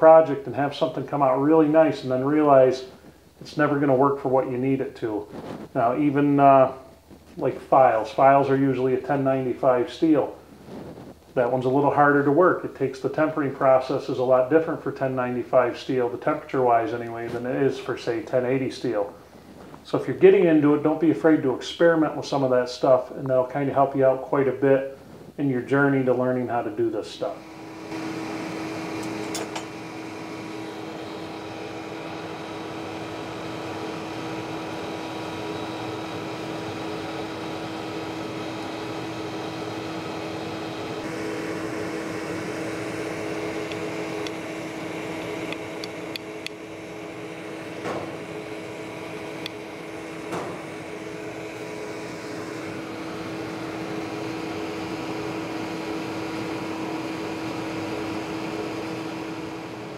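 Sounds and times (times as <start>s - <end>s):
electric air blower humming: 0.0s - 21.1s, 25.8s - 59.9s.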